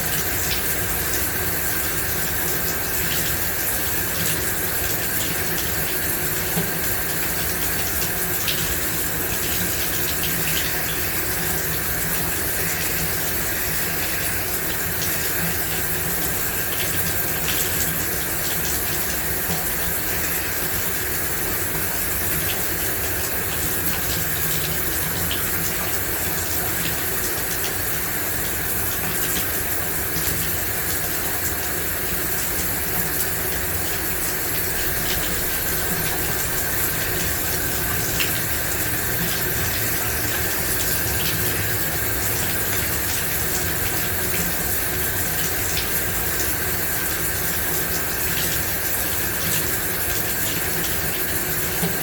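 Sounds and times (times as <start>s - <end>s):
shower running: 0.0s - 52.0s.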